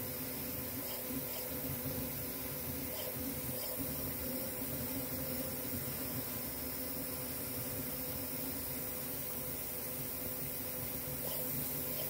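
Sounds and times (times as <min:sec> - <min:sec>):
fan hiss: 0:00.0 - 0:12.0.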